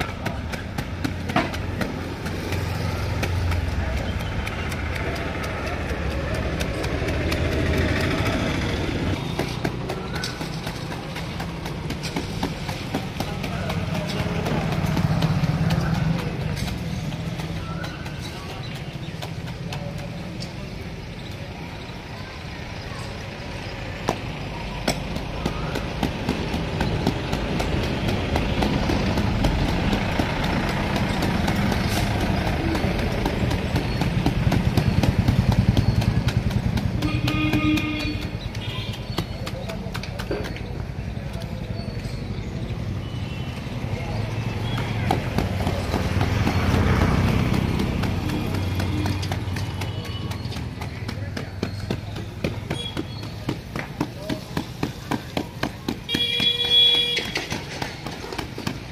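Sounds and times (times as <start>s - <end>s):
wooden float tapping wet concrete: 0.0s - 21.5s, 24.0s - 41.5s, 43.7s - 58.9s.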